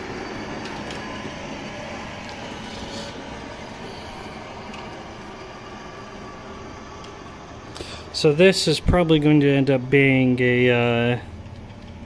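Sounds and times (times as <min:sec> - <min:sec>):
fan or ventilation hum: 0:00.0 - 0:12.0.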